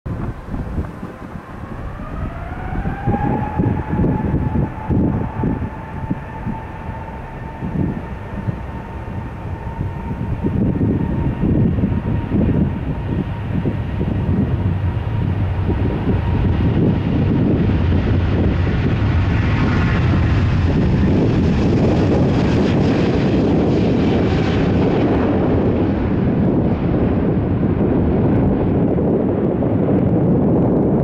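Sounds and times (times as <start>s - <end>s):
jet engine whine: 0.1s - 31.0s
low rumble: 0.1s - 31.0s.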